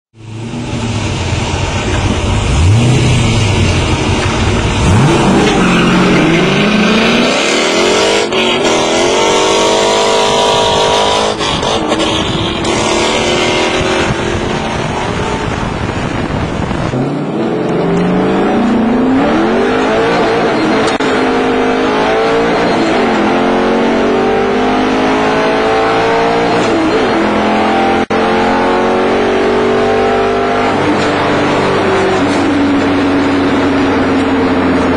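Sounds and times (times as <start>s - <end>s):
car engine accelerating hard: 0.2s - 34.9s.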